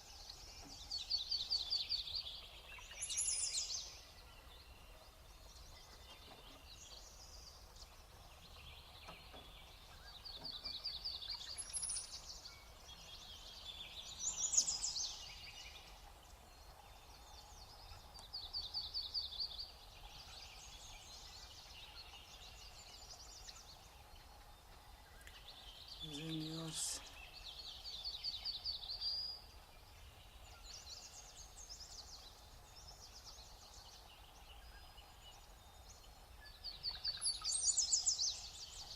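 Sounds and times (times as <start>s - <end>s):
small songbirds trilling and chirping: 0.0s - 38.9s.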